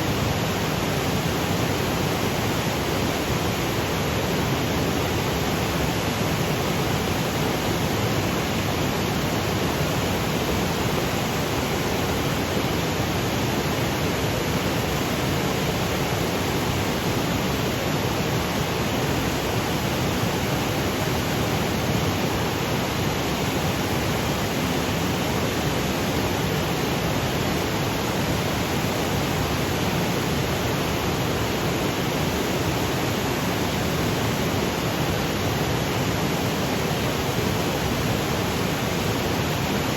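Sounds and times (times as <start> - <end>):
waterfall rushing over boulders: 0.0 - 39.9.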